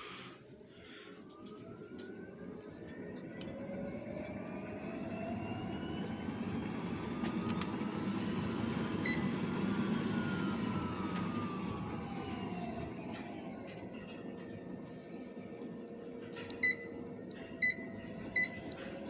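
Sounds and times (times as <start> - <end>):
treadmill motor whine: 0.0 - 19.0.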